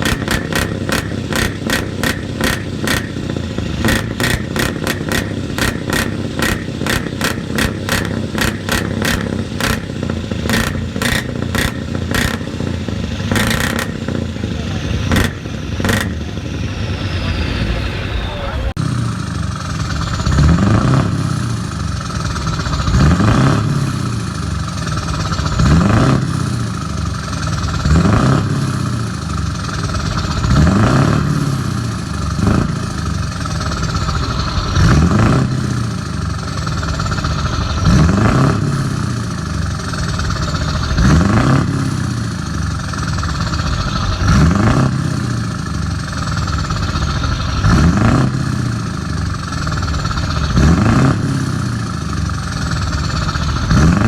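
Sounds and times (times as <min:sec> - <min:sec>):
truck diesel engines revving: 0:00.0 - 0:54.0.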